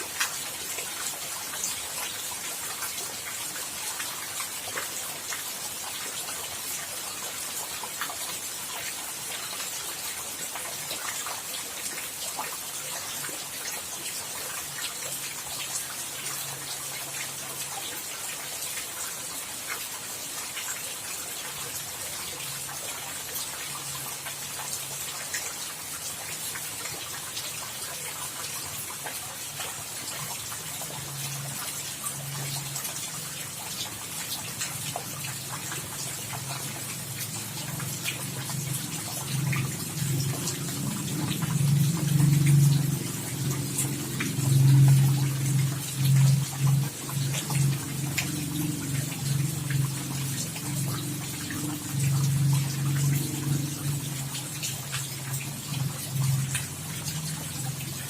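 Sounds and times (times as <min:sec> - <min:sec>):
raindrops ticking on a surface: 0:00.0 - 0:58.0
steady rain: 0:00.0 - 0:58.0.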